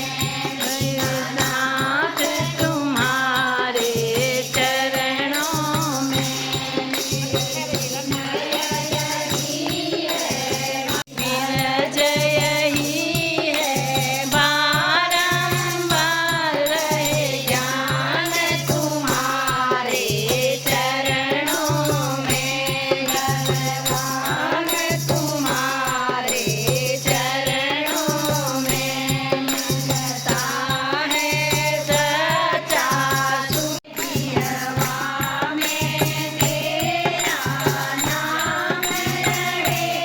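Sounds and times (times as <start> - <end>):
percussion: 0.0 - 40.0
voices singing devotional song: 0.0 - 40.0.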